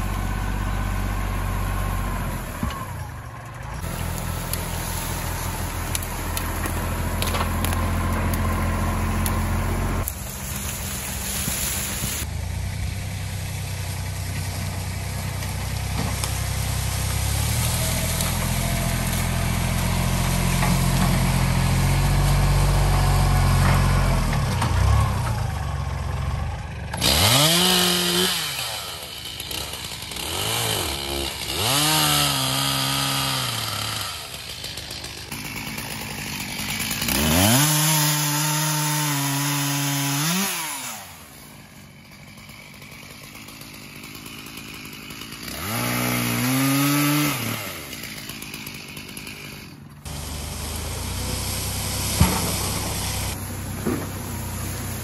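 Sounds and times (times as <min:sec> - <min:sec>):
chainsaw revving and cutting: 0:00.0 - 0:03.2, 0:03.8 - 0:55.0
tractor engine running: 0:00.0 - 0:40.0, 0:41.0 - 0:55.0.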